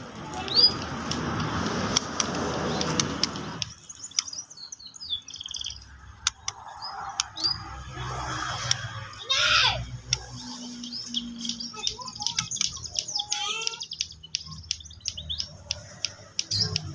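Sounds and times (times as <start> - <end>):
bird chirping and warbling: 0.0 - 1.1, 2.4 - 16.9.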